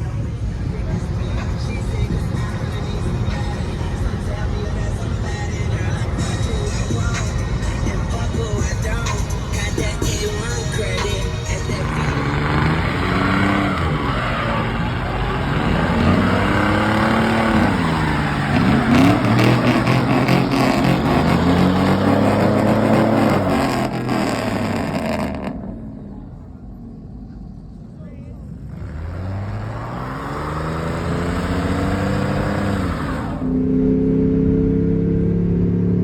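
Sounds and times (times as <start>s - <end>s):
truck engine revving: 0.0s - 26.4s, 28.4s - 36.0s.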